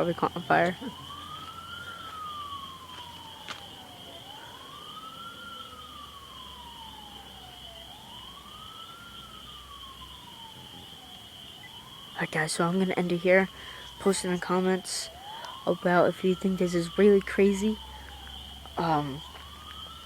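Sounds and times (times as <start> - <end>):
siren wailing: 0.0 - 20.0.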